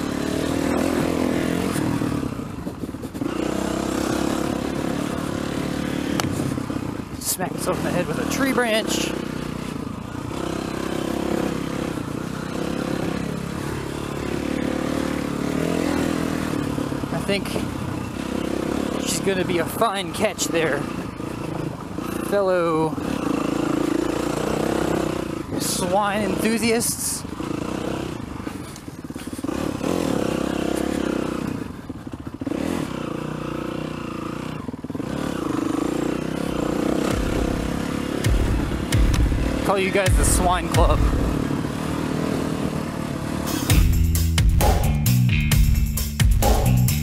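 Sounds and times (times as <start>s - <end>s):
dirt bike engine running: 0.0s - 47.0s.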